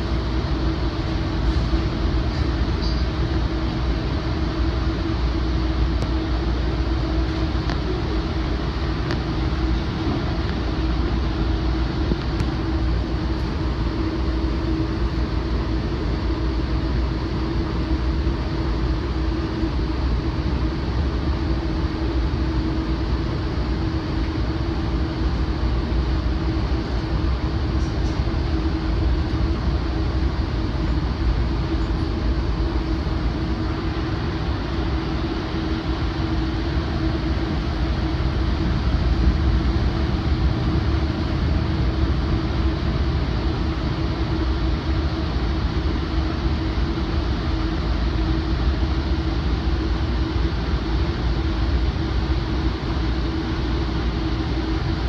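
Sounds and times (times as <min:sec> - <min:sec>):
steady hum: 0:00.0 - 0:55.0
train wheels rumbling on rail: 0:00.0 - 0:55.0.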